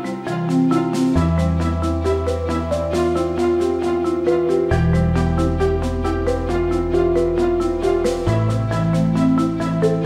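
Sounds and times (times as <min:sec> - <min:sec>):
keyboard melody: 0:00.0 - 0:10.0.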